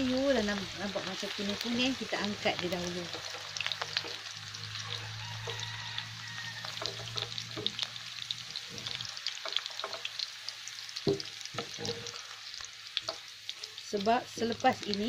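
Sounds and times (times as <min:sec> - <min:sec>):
food sizzling in hot oil: 0:00.0 - 0:15.0
metal spatula stirring in pan: 0:00.9 - 0:14.8.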